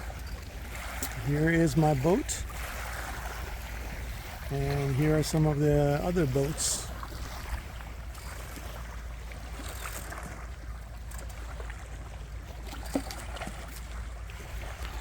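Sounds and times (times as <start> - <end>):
small waves lapping: 0.0 - 15.0.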